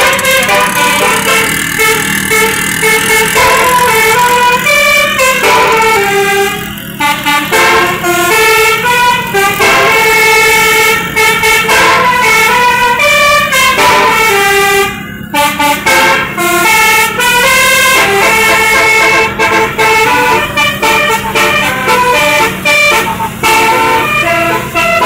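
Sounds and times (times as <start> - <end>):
bus horn playing melody: 0.0 - 25.0.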